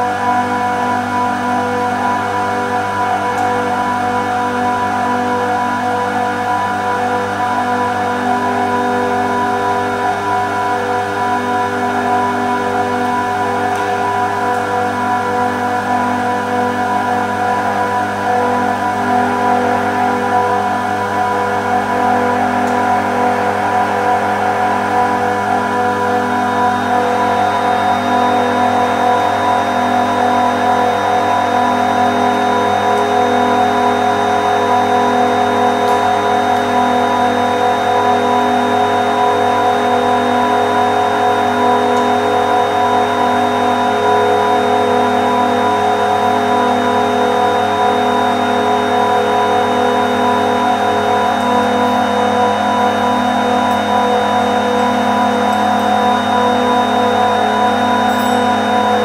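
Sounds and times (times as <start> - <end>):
industrial compressors humming: 0.0 - 59.0.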